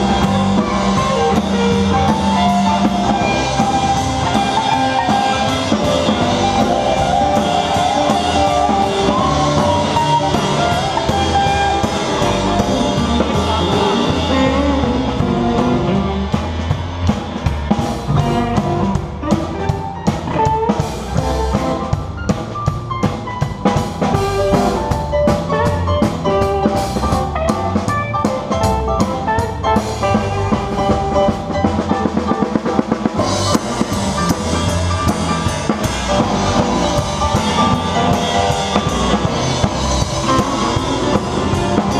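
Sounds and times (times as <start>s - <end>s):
bass guitar: 0.0s - 41.9s
drum kit: 0.0s - 41.9s
electric guitar: 0.0s - 41.9s.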